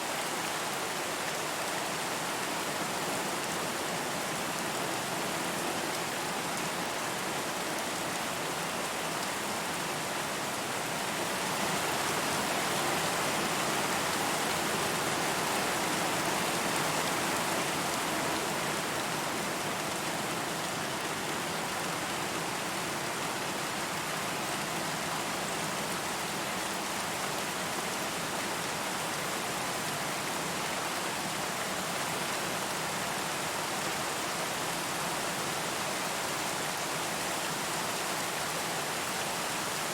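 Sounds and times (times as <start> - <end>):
rain pattering on a surface: 0.1 - 39.9.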